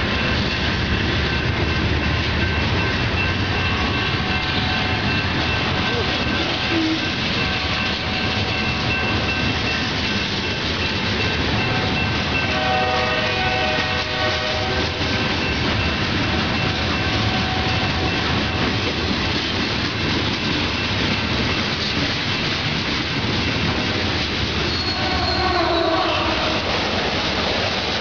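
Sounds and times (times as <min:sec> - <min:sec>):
freight train wheels clattering: 0:00.0 - 0:28.0.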